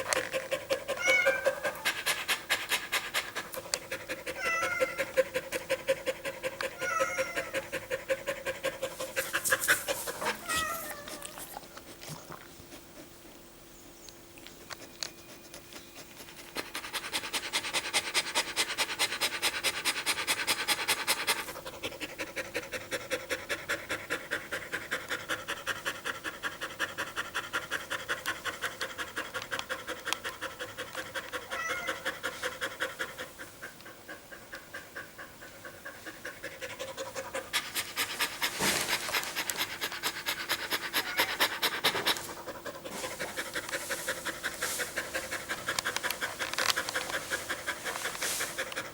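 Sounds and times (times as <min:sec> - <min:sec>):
dog panting: 0:00.0 - 0:13.3, 0:14.6 - 0:48.9.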